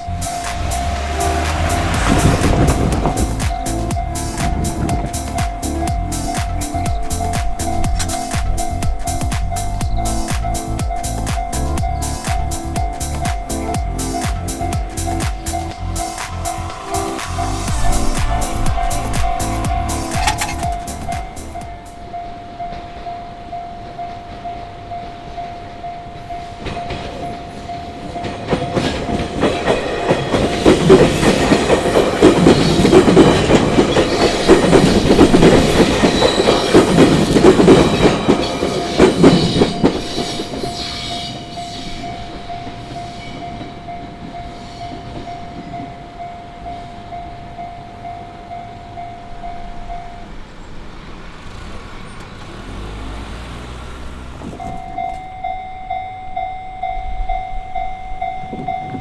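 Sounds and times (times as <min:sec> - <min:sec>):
train wheels clattering over rails: 0:00.0 - 0:47.1, 0:49.8 - 0:55.6
level-crossing alarm bell: 0:00.0 - 0:50.6, 0:54.5 - 0:59.0.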